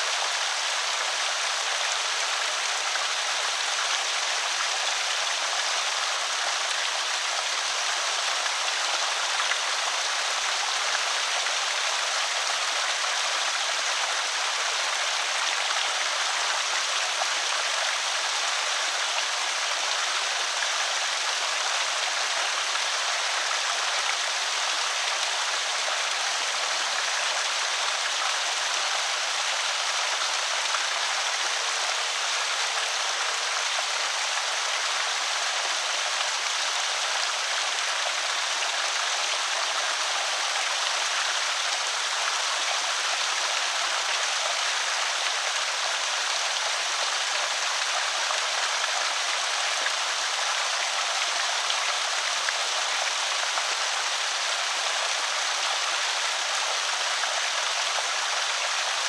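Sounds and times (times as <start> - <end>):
creek water pouring and splashing: 0.0 - 59.0.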